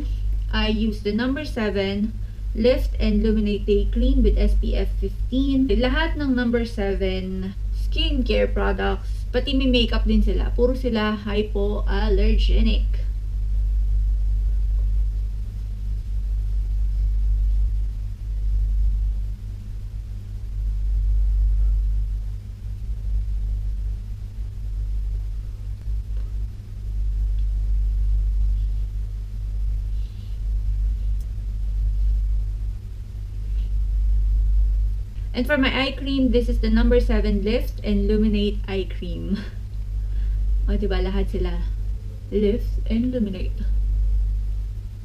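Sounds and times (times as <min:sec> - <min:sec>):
low humming rumble: 0:00.0 - 0:45.0.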